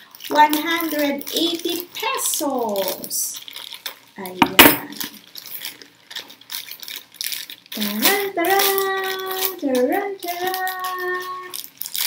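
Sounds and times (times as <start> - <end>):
plastic pouch crinkling: 0.1 - 4.2, 4.8 - 12.0.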